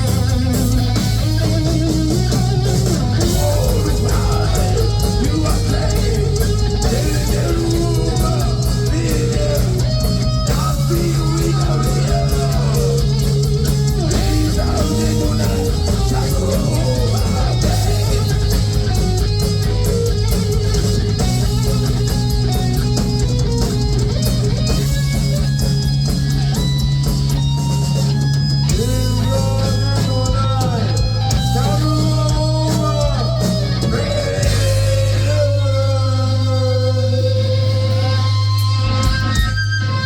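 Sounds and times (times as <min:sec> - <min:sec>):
heavy metal band playing: 0:00.0 - 0:40.0
lead guitar with bent notes: 0:00.0 - 0:40.0.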